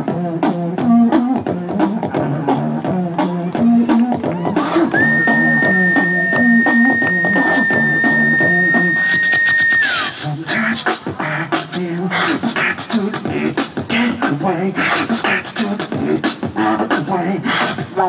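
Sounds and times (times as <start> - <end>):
beatboxing: 0.0 - 18.0
vocal bass line: 0.0 - 18.0.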